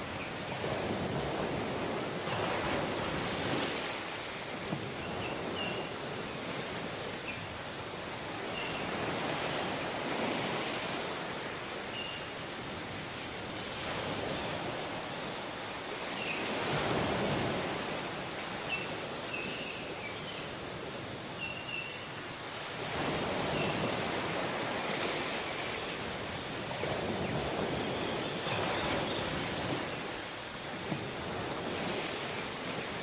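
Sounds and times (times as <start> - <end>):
ocean waves washing: 0.0 - 21.3, 22.1 - 33.0.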